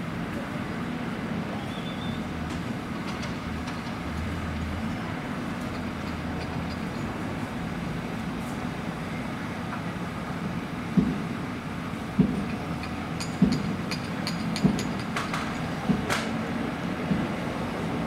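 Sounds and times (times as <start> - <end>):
distant freight train rumbling: 1.3 - 18.0.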